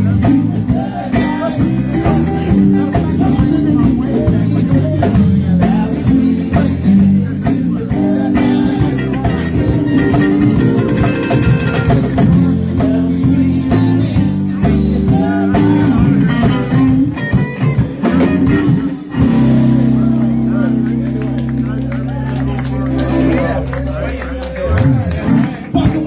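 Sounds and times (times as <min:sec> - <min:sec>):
bass guitar: 0:00.0 - 0:26.0
drums: 0:00.0 - 0:26.0
electric guitar lead with bent notes: 0:00.0 - 0:26.0.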